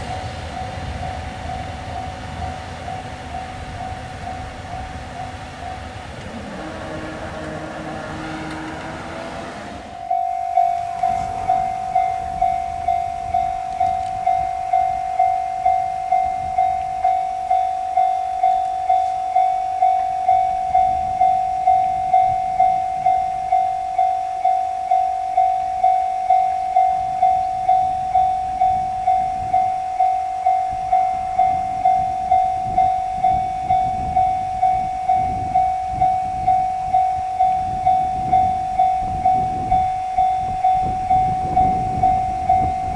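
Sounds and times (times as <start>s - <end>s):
railroad crossing warning bell: 0.0s - 42.9s.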